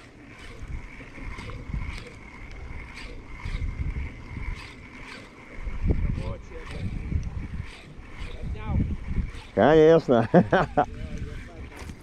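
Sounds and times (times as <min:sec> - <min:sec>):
fishing reel whining: 0:00.0 - 0:12.0
wind rumbling on microphone: 0:00.0 - 0:12.0.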